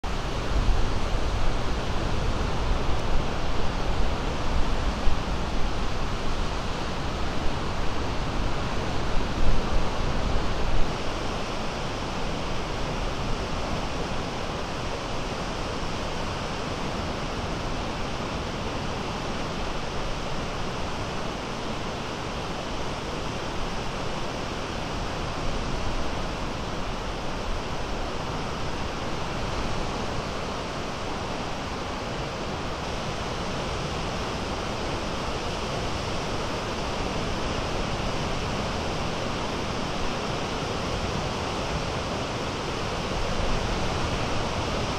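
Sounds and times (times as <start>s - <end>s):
wind rumbling on microphone: 0.0s - 44.9s
small waves breaking on sand: 0.1s - 44.9s.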